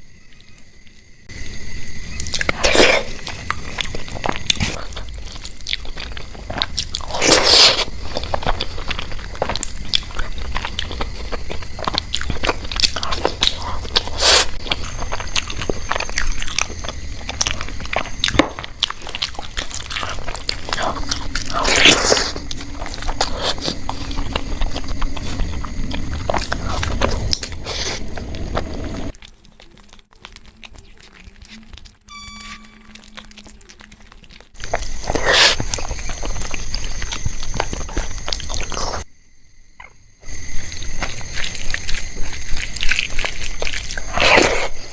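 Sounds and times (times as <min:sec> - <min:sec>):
crunchy bites and chewing: 0:00.0 - 0:39.1, 0:39.8 - 0:44.9.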